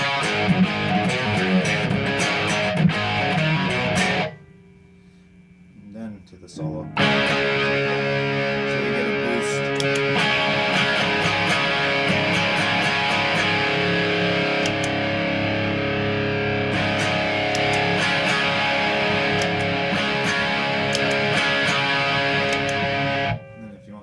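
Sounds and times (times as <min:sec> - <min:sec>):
overdriven electric guitar: 0:00.0 - 0:04.6, 0:06.8 - 0:24.0.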